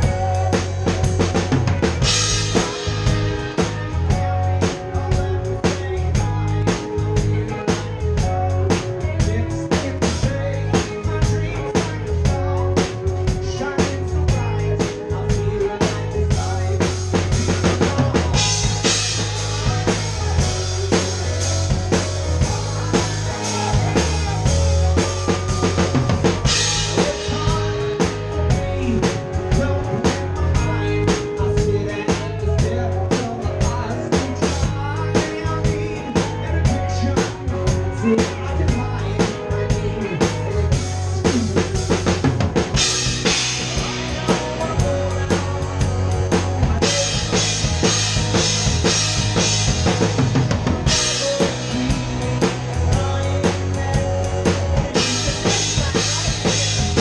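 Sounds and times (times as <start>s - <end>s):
drum kit beat: 0.0s - 57.0s
live band playing: 0.0s - 57.0s.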